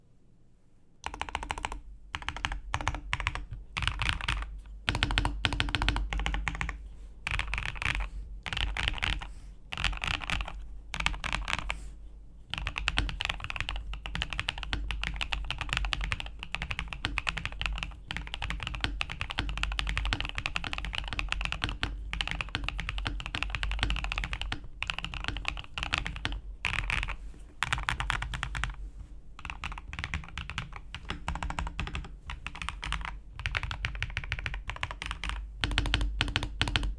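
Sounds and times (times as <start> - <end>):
mechanical keyboard typing: 1.0 - 11.8, 12.5 - 28.8, 29.4 - 36.9.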